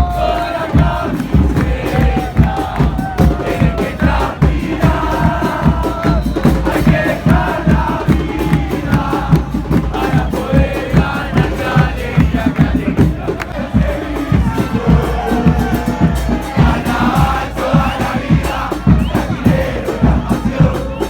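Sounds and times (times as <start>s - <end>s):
bass drum beats: 0.0s - 21.0s
football crowd chanting: 0.0s - 21.0s.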